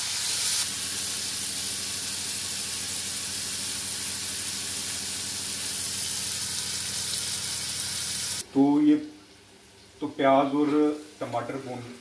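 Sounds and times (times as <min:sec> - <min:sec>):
onions and tomatoes sizzling in pan: 0:00.0 - 0:12.0.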